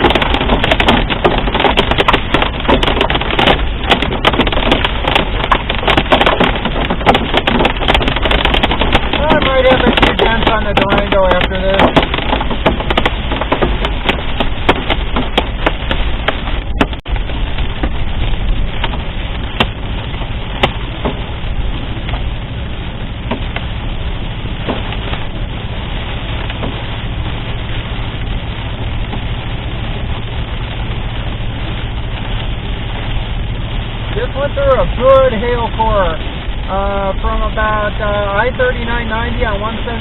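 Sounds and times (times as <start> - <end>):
hailstones striking a vehicle: 0.0 - 40.0
rain: 0.0 - 40.0
road noise: 0.0 - 40.0.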